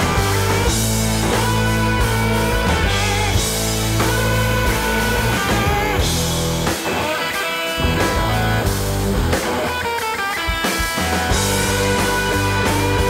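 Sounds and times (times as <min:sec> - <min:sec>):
rock music with guitar: 0:00.0 - 0:13.0.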